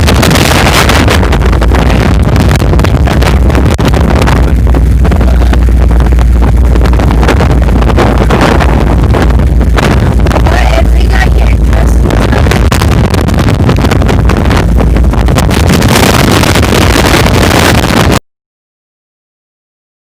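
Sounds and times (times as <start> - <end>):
off-road vehicle engine rumbling: 0.0 - 18.2
wind buffeting microphone: 0.0 - 18.2.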